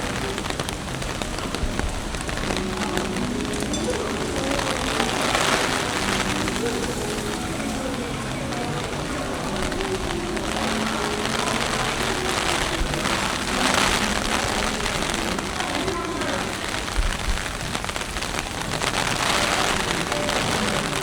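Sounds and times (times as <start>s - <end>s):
heavy rain on hard surfaces: 0.0s - 21.0s.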